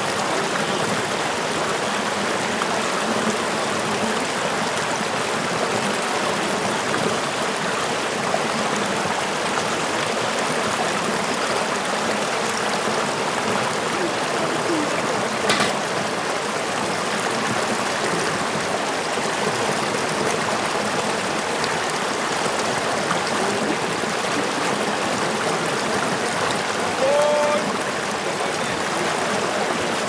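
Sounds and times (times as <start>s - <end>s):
river rushing over boulders: 0.0s - 30.0s.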